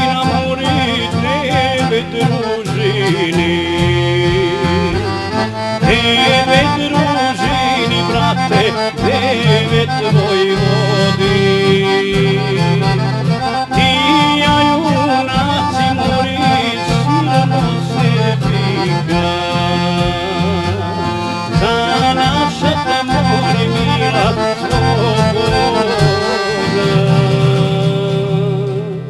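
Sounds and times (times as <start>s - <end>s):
folk song on accordion: 0.0s - 29.0s
steady bass accompaniment: 0.0s - 29.0s.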